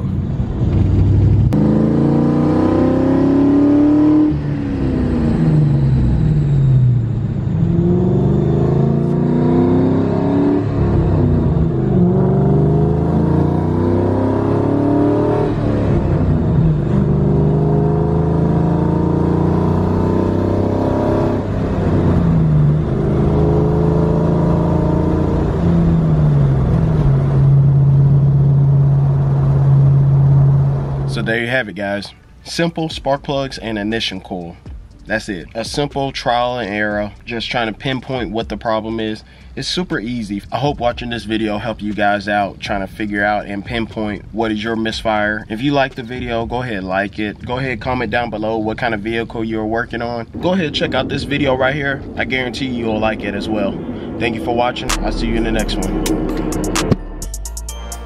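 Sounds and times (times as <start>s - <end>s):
car engine accelerating: 0.0s - 31.5s, 39.9s - 58.0s.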